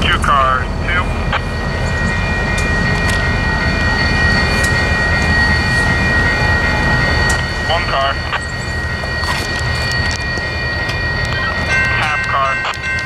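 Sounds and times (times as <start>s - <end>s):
crossing warning bell ringing: 0.0s - 13.0s.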